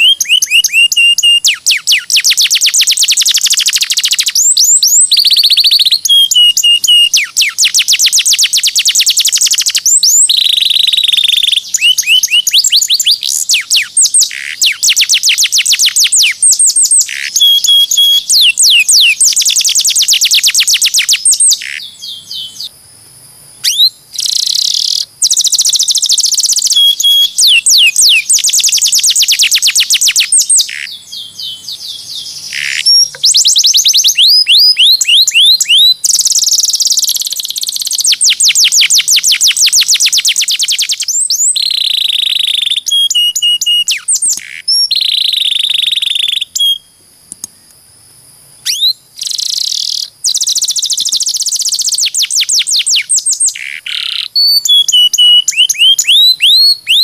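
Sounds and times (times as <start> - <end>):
canary singing trills: 0.0 - 22.8, 23.5 - 47.8, 48.6 - 57.0.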